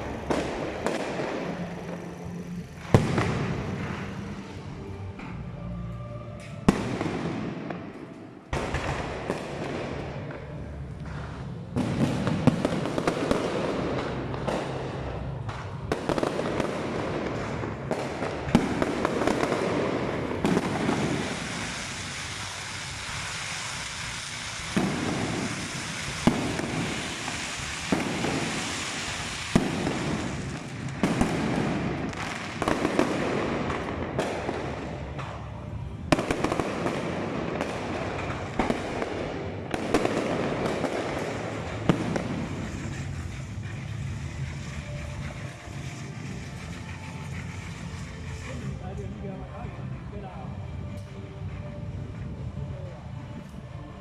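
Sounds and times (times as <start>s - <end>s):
firework shells bursting: 0.0s - 4.7s, 6.6s - 48.8s
fireworks crackling: 0.0s - 54.0s.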